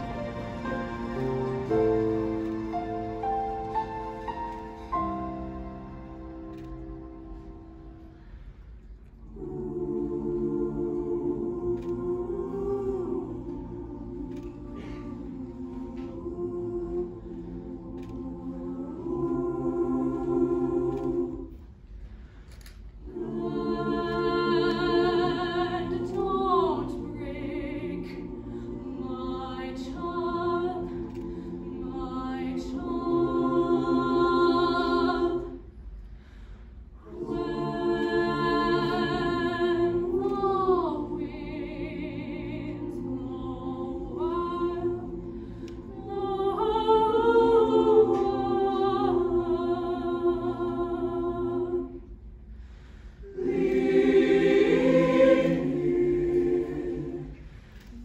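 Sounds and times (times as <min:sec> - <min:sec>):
choir singing in harmony: 0:00.0 - 0:22.4, 0:23.0 - 0:36.4, 0:37.0 - 0:58.0.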